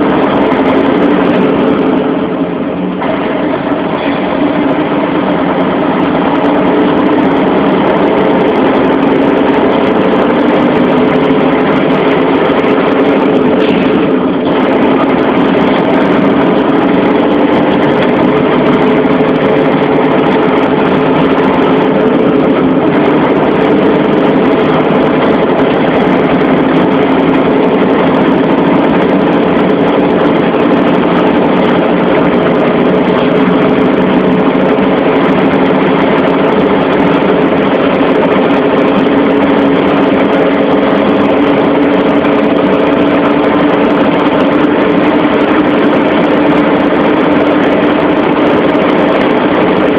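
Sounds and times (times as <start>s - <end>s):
farm vehicle engine droning: 0.0s - 49.9s.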